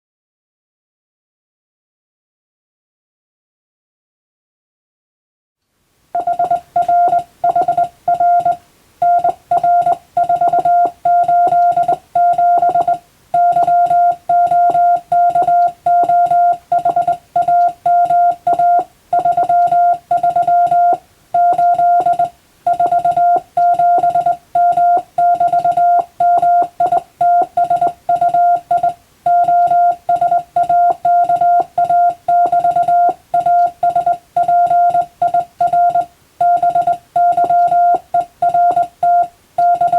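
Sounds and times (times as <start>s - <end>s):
morse code tone: 6.2s - 39.9s.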